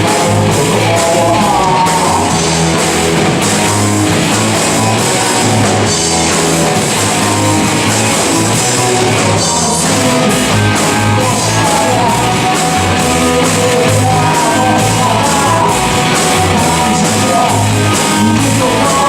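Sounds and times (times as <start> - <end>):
bass guitar: 0.0 - 19.0
distorted electric guitar: 0.0 - 19.0
drum kit: 0.0 - 19.0.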